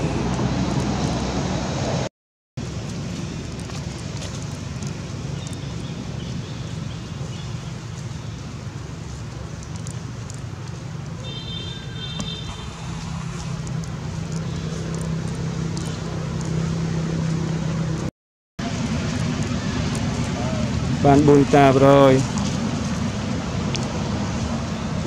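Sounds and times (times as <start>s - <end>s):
motor engine humming: 0.0s - 25.0s.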